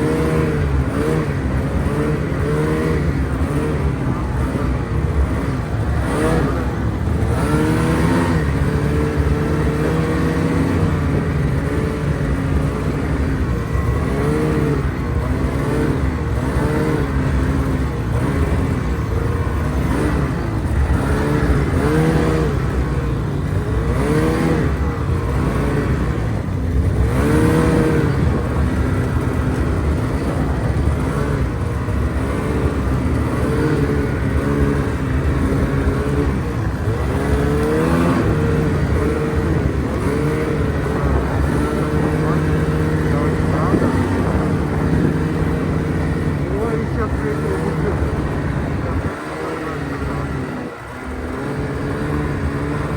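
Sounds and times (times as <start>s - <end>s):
off-road vehicle engine revving: 0.0s - 52.9s.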